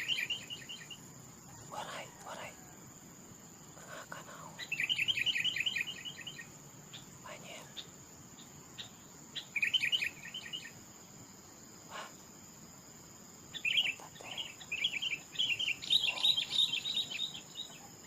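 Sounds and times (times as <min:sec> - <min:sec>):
small bird chirping: 0:00.0 - 0:02.8, 0:03.4 - 0:12.4, 0:13.3 - 0:18.0
high insect drone: 0:00.0 - 0:18.0.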